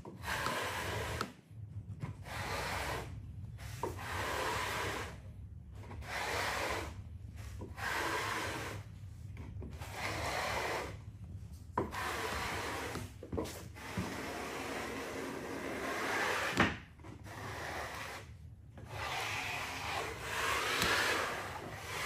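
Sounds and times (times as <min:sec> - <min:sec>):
rubbing or scraping on wood: 0:00.0 - 0:01.3, 0:02.0 - 0:05.2, 0:05.8 - 0:22.0.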